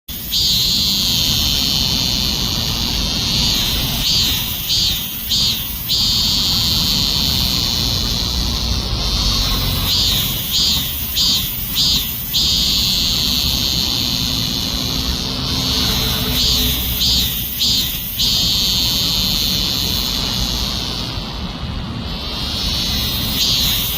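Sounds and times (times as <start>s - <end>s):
cicada buzzing: 0.0s - 23.9s.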